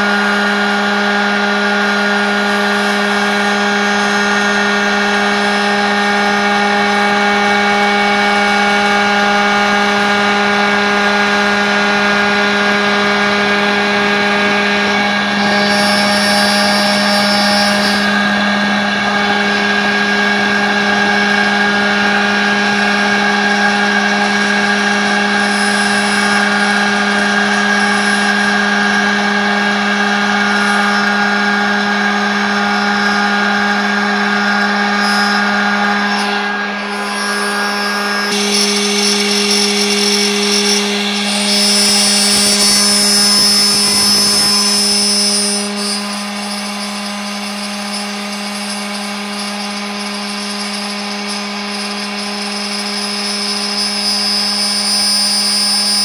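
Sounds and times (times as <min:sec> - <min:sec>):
router spindle whining: 0:00.0 - 0:56.0
hissing cutting noise: 0:02.8 - 0:55.7.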